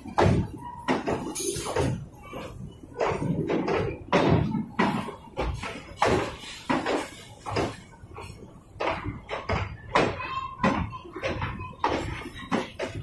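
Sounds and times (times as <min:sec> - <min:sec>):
metallic clanks and bangs: 0:00.0 - 0:13.0.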